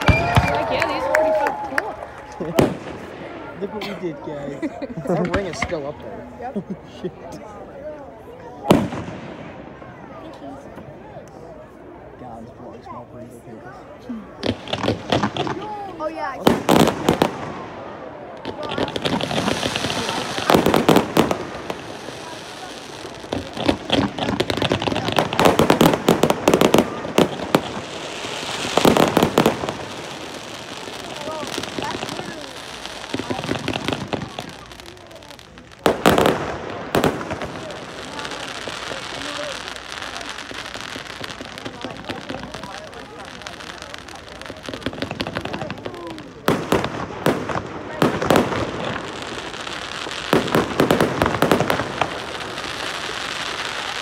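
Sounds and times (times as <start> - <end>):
fireworks cracking and popping: 0.0 - 4.0, 5.0 - 7.0, 8.6 - 11.4, 14.3 - 54.0.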